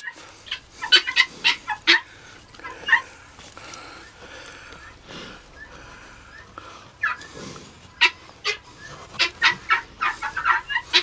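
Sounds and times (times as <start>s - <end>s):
guinea fowl harsh calls: 0.0s - 11.0s.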